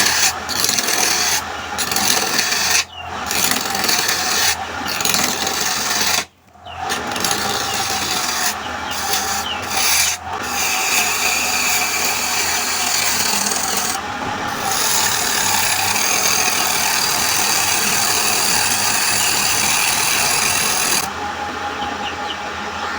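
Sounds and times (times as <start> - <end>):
tool rasping on spinning wood: 0.0 - 21.1
faint motor tone: 0.0 - 22.9.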